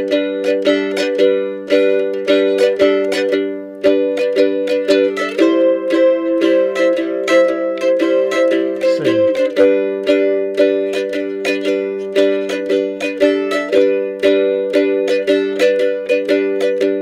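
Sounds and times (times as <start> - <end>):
mandolin strummed: 0.0 - 17.0.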